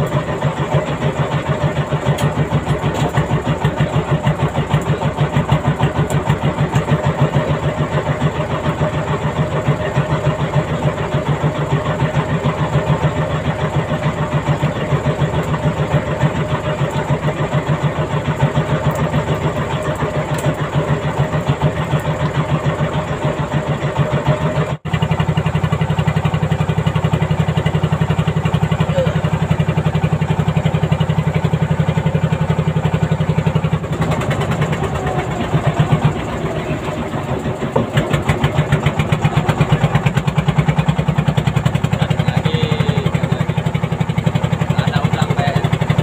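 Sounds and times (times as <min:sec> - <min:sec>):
boat engine pulsing: 0:00.0 - 0:46.0.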